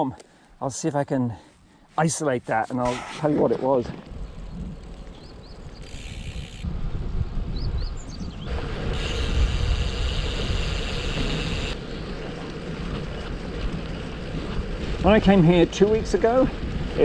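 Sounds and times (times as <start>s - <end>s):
wind on microphone: 2.9s - 17.0s.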